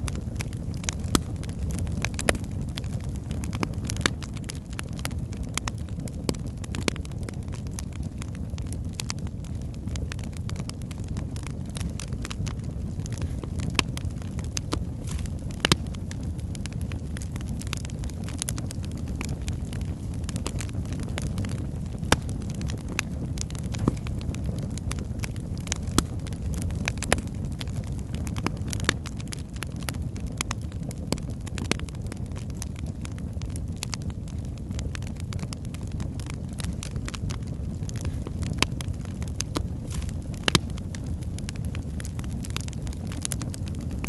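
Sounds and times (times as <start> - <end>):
logs crackling and popping: 0.0 - 44.0
rumble of fire flames: 0.0 - 44.0.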